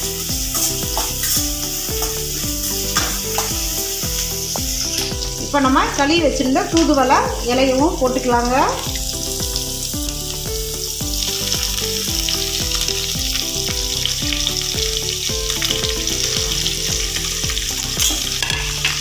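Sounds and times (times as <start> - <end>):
background music with beat: 0.0 - 19.0
food sizzling in hot oil: 0.0 - 19.0.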